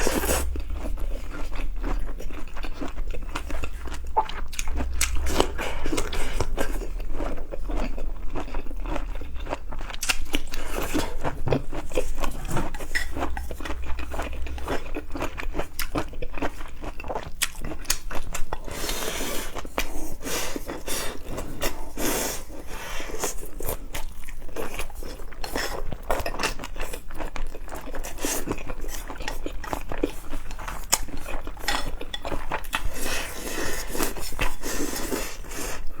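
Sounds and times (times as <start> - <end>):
person crunching and chewing food: 0.0 - 36.0.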